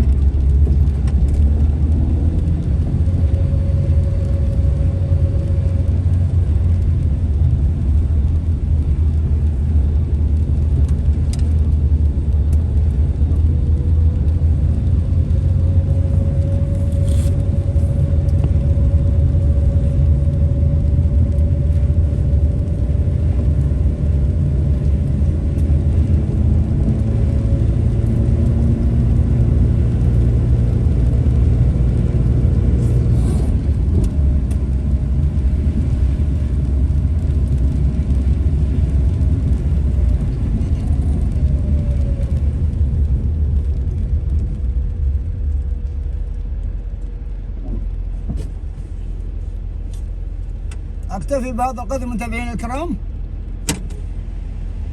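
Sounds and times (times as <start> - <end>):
car cabin road and engine noise: 0.0 - 54.9.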